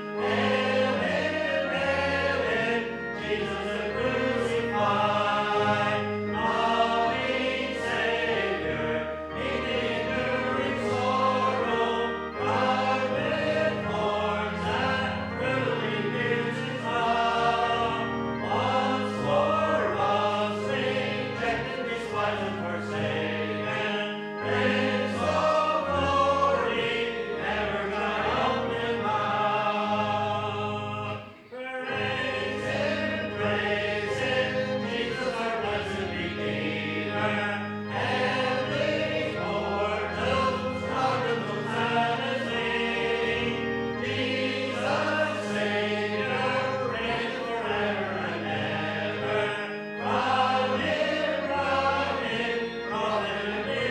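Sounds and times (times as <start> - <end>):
congregation singing a hymn: 0.0 - 53.9
instrumental accompaniment: 0.0 - 53.9.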